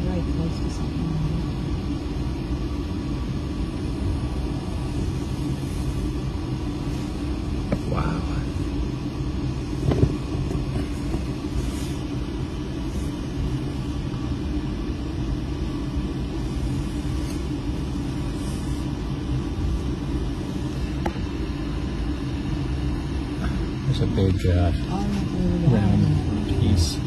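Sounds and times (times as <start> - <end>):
low rumble of onboard machinery: 0.0 - 27.0.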